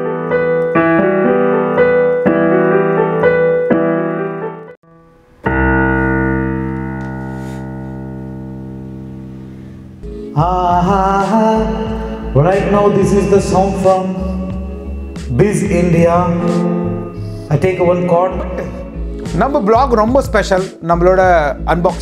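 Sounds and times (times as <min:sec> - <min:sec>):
keyboard piano chords: 0:00.0 - 0:22.0.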